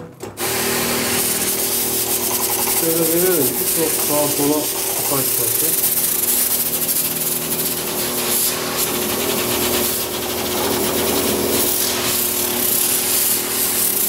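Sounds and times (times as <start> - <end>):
electric sprayer pump humming: 0.4 - 14.0
water spray hissing: 0.4 - 14.0.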